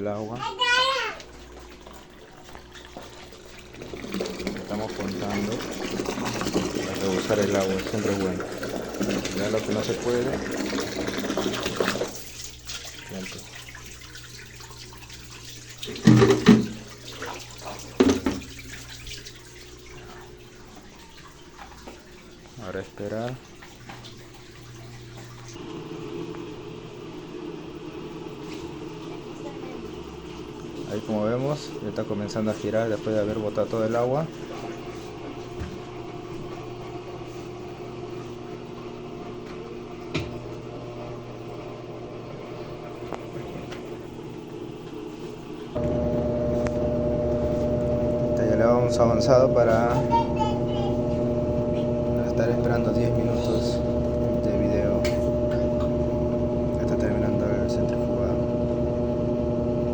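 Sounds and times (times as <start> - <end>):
washing machine pump humming: 0.0 - 59.9.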